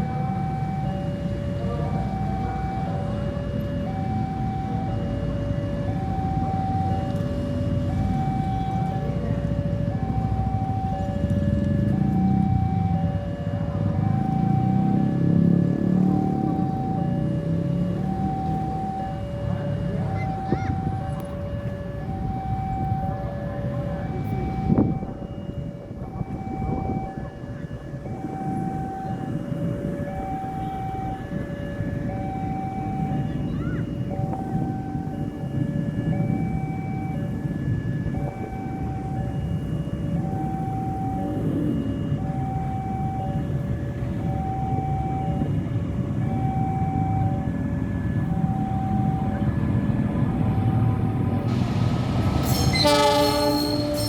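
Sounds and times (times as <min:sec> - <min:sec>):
low rumble of approaching train: 0:00.0 - 0:54.0
two-tone warning siren: 0:00.0 - 0:54.0.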